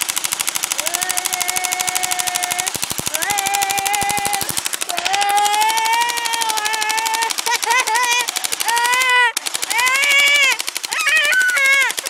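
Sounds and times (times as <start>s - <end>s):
bb gun firing rapid shots: 0.0s - 12.0s
person yelling: 0.8s - 12.0s.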